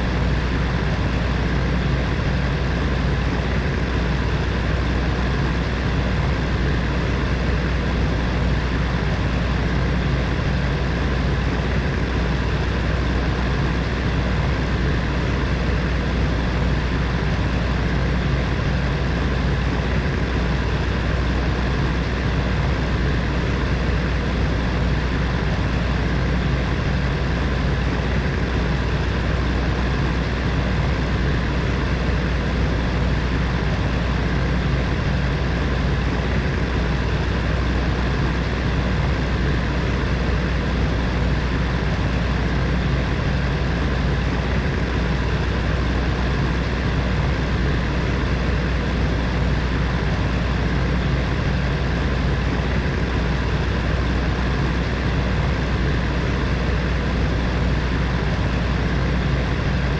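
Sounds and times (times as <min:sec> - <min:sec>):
electric heater fan running: 0:00.0 - 0:59.9.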